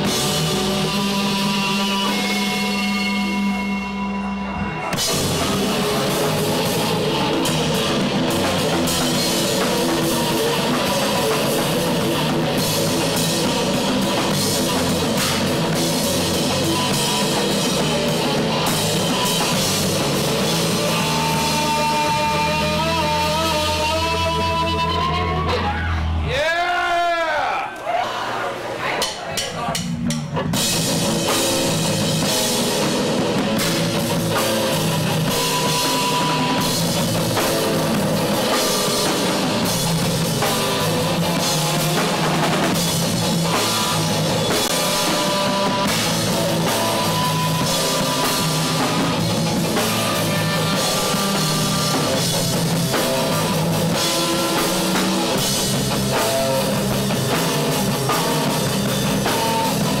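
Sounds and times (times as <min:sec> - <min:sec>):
distorted electric guitar: 0:00.0 - 0:26.4, 0:29.8 - 1:00.0
bass guitar: 0:00.0 - 0:27.1, 0:29.4 - 1:00.0
drum kit pounding a beat: 0:00.0 - 0:27.6, 0:28.9 - 1:00.0.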